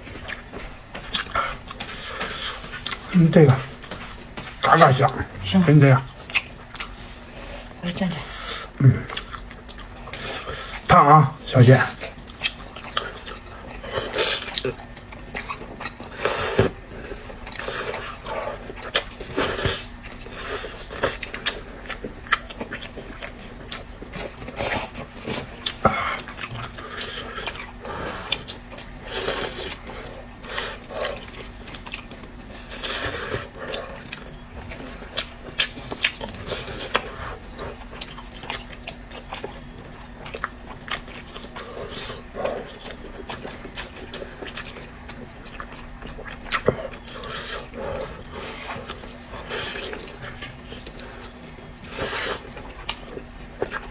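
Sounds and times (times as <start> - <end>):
faint steady hum: 0.0 - 53.9
person chewing meat: 0.0 - 53.9.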